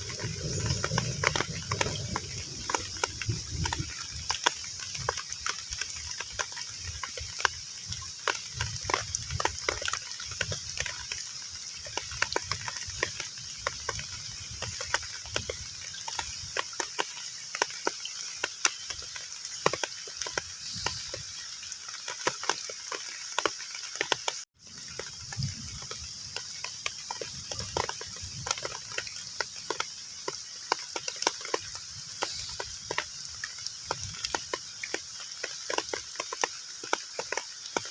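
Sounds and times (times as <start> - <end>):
rain falling on pond water: 0.0 - 37.9.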